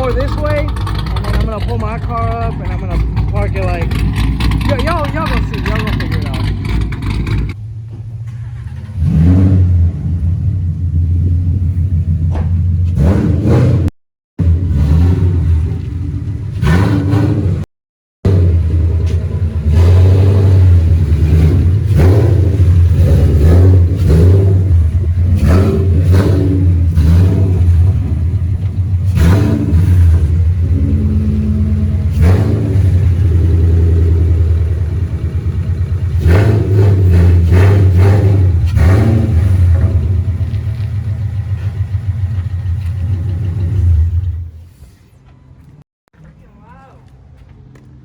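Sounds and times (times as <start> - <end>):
car engine with deep exhaust: 0.0 - 17.6, 18.2 - 45.7.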